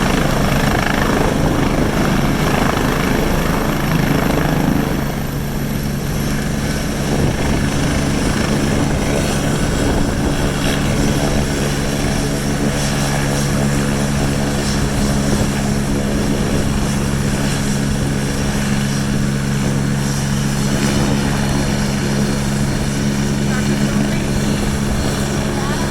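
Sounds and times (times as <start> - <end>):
helicopter engine and rotors: 0.0 - 25.9.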